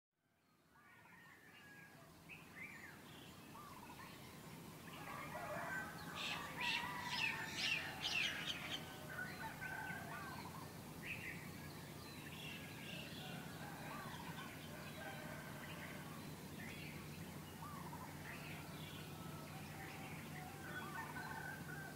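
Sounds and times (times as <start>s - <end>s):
birds chirping: 1.8s - 21.9s.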